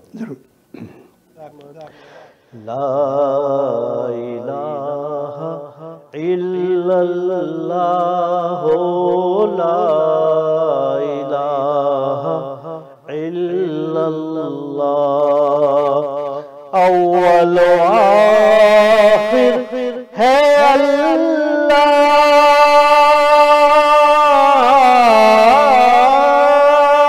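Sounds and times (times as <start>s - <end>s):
man singing unaccompanied: 2.5s - 27.0s.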